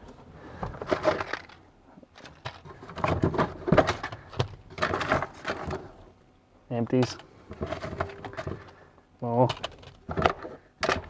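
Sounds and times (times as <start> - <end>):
fuses rattling and clicking: 0.6 - 6.0, 6.9 - 11.0.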